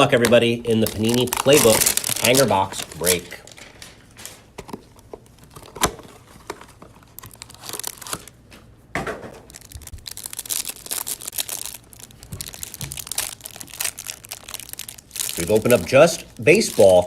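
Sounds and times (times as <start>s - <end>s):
cardboard tearing and crinkling: 0.0s - 4.5s, 5.4s - 8.4s, 9.5s - 17.0s.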